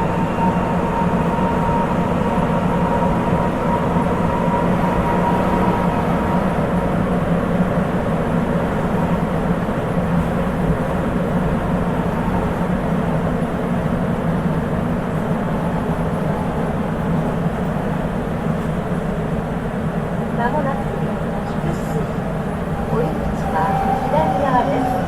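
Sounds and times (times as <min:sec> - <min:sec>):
metro train running in tunnel: 0:00.0 - 0:25.0.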